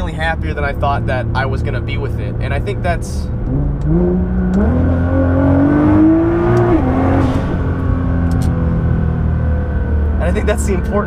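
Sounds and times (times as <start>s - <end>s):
car engine accelerating: 0.3s - 11.0s.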